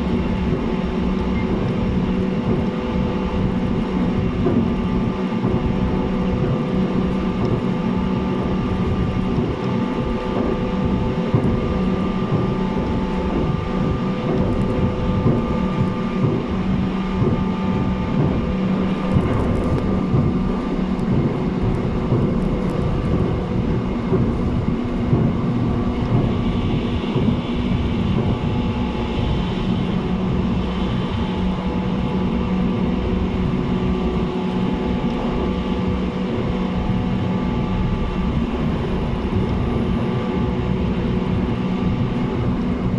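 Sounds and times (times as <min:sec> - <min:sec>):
wheels rumbling on rail: 0:00.0 - 0:42.9.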